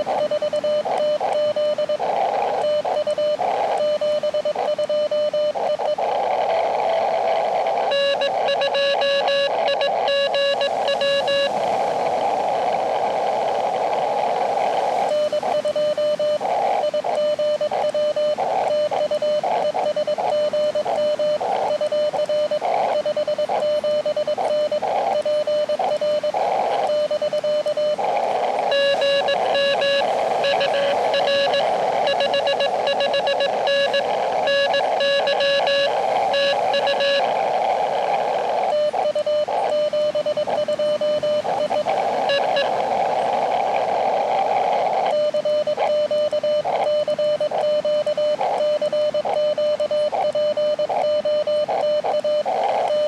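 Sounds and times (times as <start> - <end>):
morse code tone: 0.0 - 12.8, 13.6 - 53.0
receiver hiss: 0.0 - 53.0.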